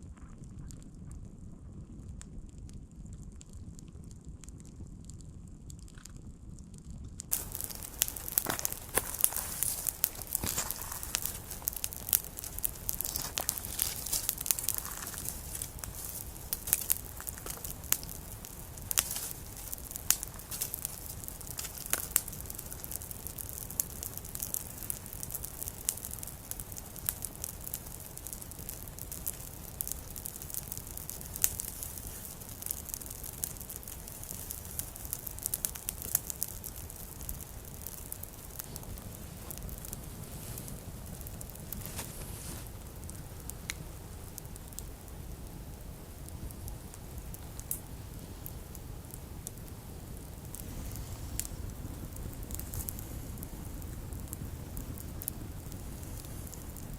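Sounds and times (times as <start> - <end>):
campfire crackling and popping: 0.0 - 56.9
soft hiss of fire: 0.3 - 56.9.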